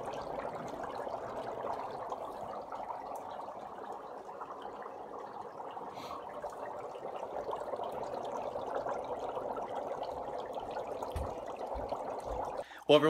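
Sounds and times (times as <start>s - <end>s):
dry ice bubbling in water: 0.0s - 13.0s.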